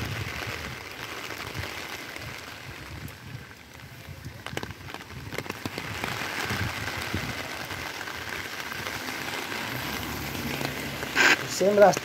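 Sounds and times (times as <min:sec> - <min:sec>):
heavy rain hissing: 0:00.0 - 0:12.0
raindrops ticking on umbrella: 0:00.0 - 0:12.0.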